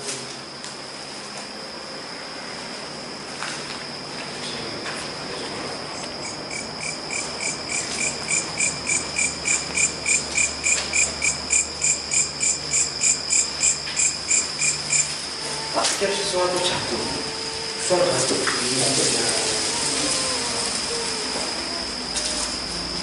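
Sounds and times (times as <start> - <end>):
cricket drone: 0.0 - 23.0
rhythmic insect chirping: 0.5 - 23.0.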